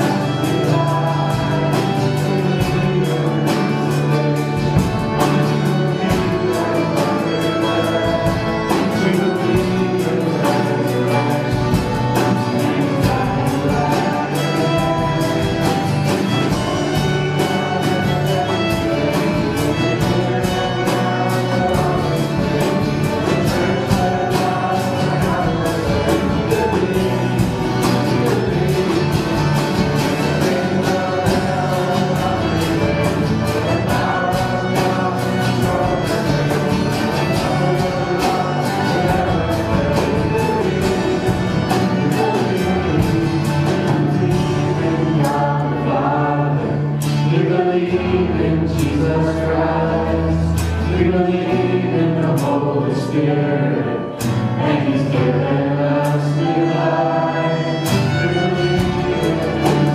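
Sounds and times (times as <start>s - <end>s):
voices singing along: 0.0s - 59.9s
worship band playing: 0.0s - 59.9s.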